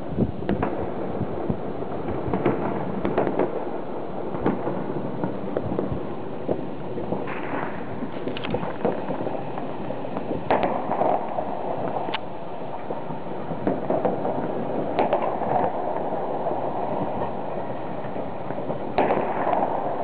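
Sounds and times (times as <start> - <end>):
distant fireworks crackling: 0.0 - 20.0
firework bangs: 0.0 - 20.0.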